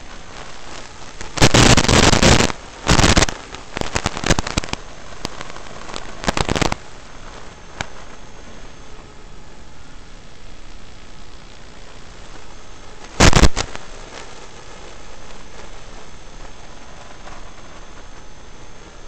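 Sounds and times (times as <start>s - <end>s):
crackling static bursts: 0.0s - 19.0s
receiver audio hiss: 0.0s - 19.0s.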